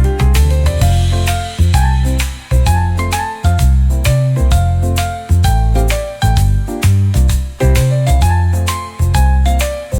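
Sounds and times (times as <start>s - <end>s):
heavy bass line: 0.0s - 9.6s
light percussion: 0.0s - 9.9s
plucked or keyboard melody: 0.0s - 9.9s.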